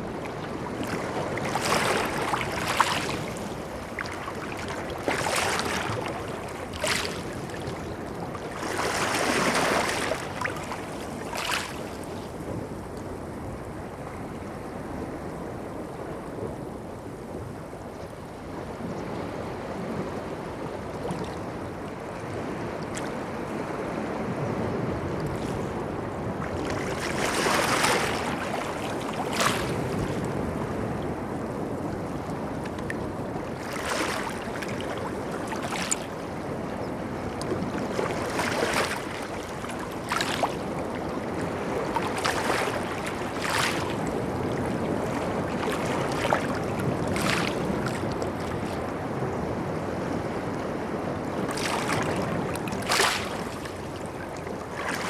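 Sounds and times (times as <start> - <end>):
waves breaking on beach: 0.0 - 17.8, 18.4 - 55.0
surf rumble: 0.0 - 55.0.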